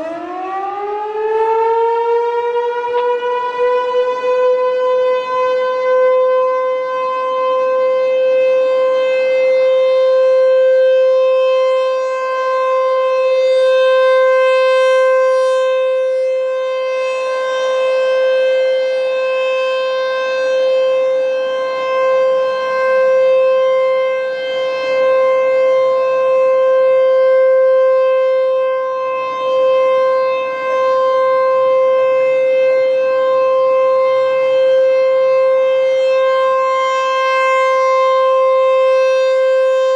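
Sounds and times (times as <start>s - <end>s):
rotating tornado warning siren: 0.0s - 39.9s.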